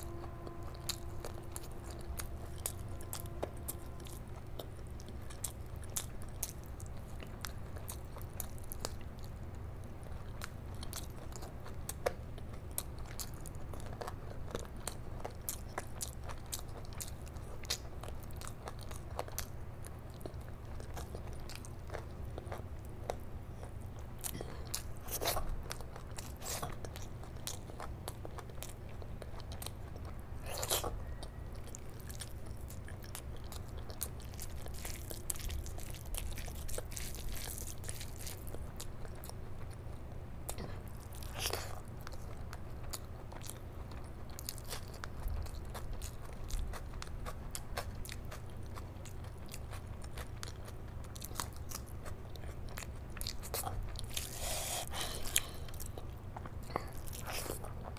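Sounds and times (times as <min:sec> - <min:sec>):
close chewing and mouth sounds: 0:00.0 - 0:57.9
steady low hum: 0:00.0 - 0:57.9.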